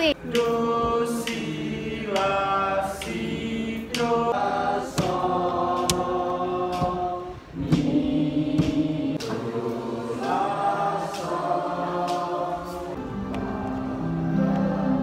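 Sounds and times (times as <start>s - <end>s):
students singing in chorus: 0.0s - 15.0s.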